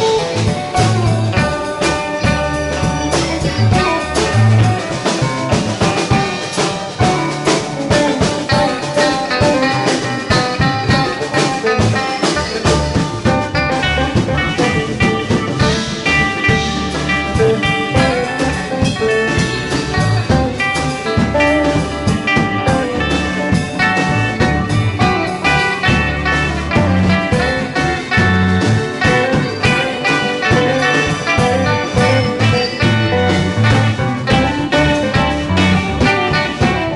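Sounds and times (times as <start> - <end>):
bass guitar: 0.0 - 36.9
drum kit: 0.0 - 36.9
electric guitars: 0.0 - 36.9
electric keyboard: 0.0 - 36.9.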